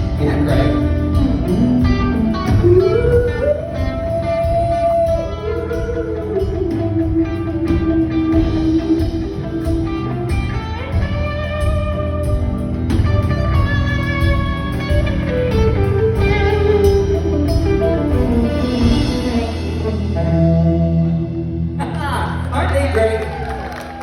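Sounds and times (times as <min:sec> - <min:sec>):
guitar bending lead notes: 0:00.0 - 0:22.6
country music backing: 0:00.0 - 0:24.0.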